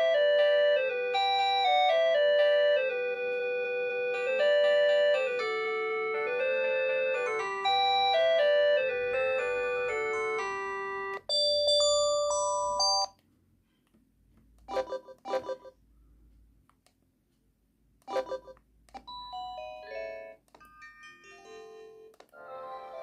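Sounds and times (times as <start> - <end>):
mobile phone polyphonic melody: 0.0 - 13.2, 14.7 - 15.8, 18.1 - 23.0.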